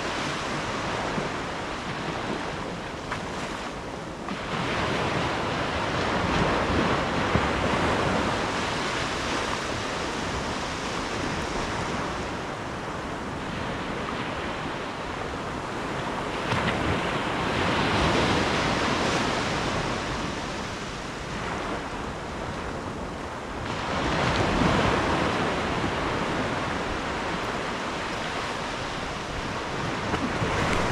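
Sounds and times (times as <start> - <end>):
ocean waves breaking on shore: 0.0 - 30.9
wind buffeting microphone: 0.0 - 30.9.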